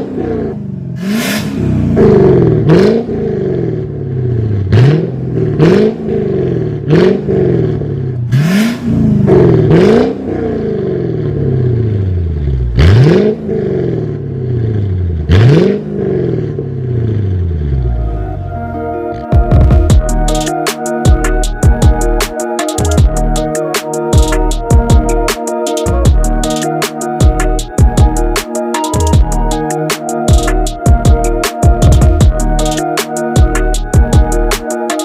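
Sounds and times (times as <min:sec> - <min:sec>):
car engine revving: 0:00.0 - 0:34.6.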